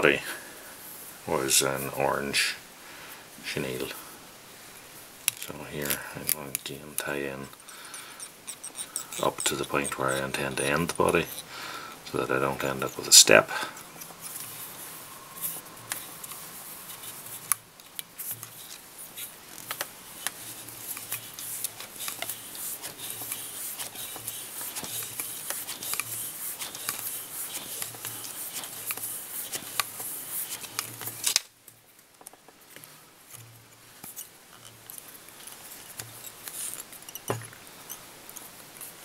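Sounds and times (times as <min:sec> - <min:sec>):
fly tying handling noise: 0:05.2 - 0:39.0.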